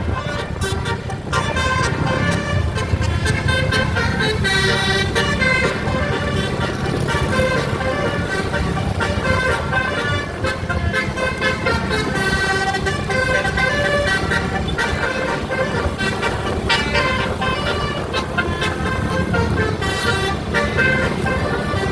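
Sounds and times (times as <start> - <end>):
musical air horns tooting: 0.0 - 21.9.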